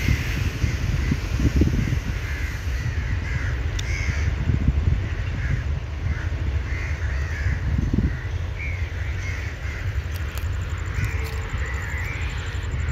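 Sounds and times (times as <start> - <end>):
crows calling: 0.0 - 12.9
steady low rumble: 0.0 - 12.9.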